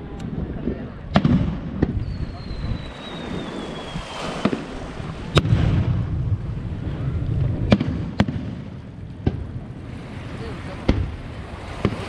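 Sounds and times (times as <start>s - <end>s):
low rolling rumble: 0.0s - 12.0s.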